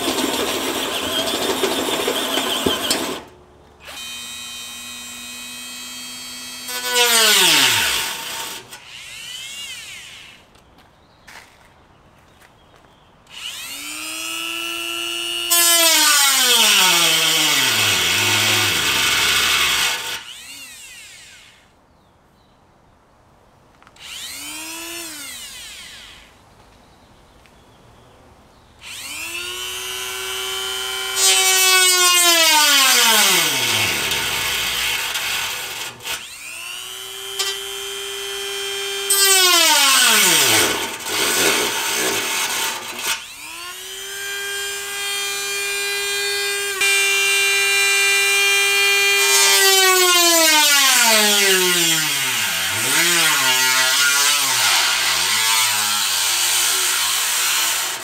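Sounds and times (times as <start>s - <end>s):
rotary tool grinding sheet metal: 0.0s - 3.3s, 3.9s - 10.4s, 13.4s - 21.4s, 28.9s - 58.0s.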